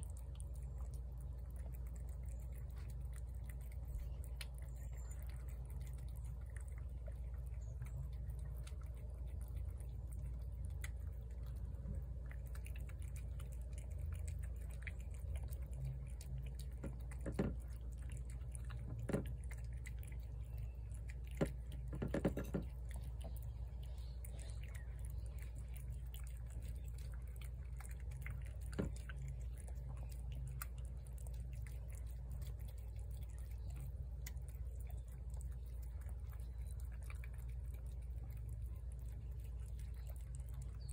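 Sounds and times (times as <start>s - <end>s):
cats chewing: 0.0s - 40.9s.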